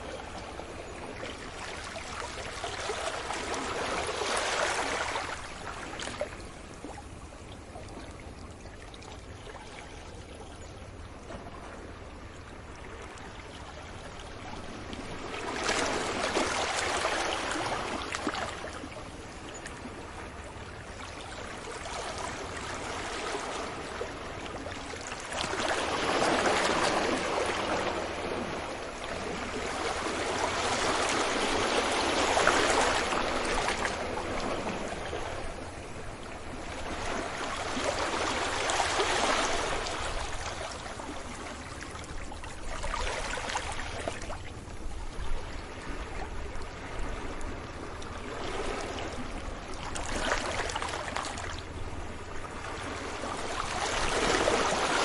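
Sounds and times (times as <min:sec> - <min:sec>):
sea waves breaking on beach: 0:00.0 - 0:06.7, 0:14.6 - 0:20.4, 0:21.2 - 0:55.0.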